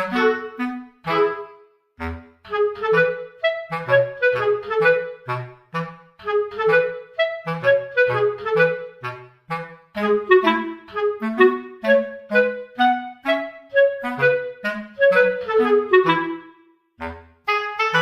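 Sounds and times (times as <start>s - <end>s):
instrumental background music: 0.0s - 18.0s.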